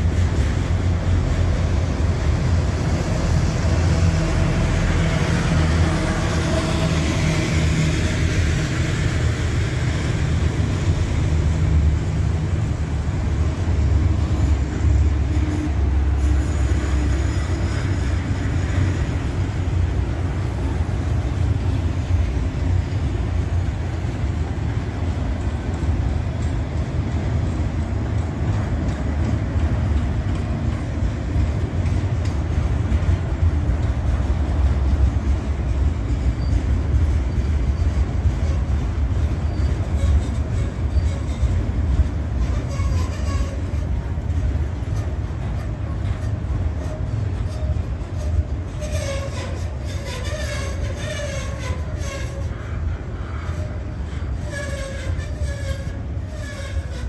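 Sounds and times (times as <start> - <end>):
freight train wheels rumbling on track: 0.0 - 57.0.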